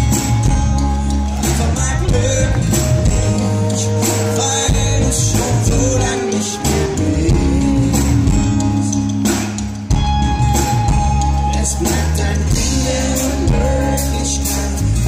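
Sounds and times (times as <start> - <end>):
man singing: 0.0 - 9.3, 11.0 - 15.0
bass guitar: 0.0 - 15.0
drums: 0.0 - 15.0
guitars playing: 0.0 - 15.0.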